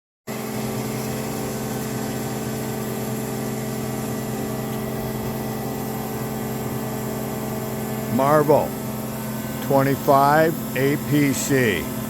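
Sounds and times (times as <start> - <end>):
bandsaw humming: 0.4 - 12.0.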